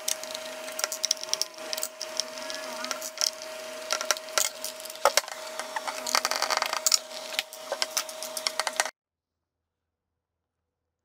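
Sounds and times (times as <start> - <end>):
screwdriver clicking and scraping: 0.0 - 8.9.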